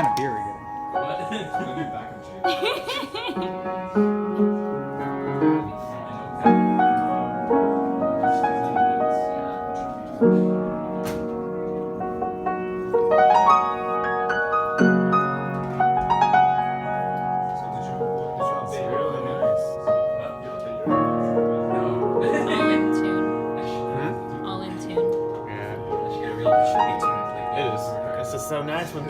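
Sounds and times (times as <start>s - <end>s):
piano chords and melody: 0.0s - 29.0s.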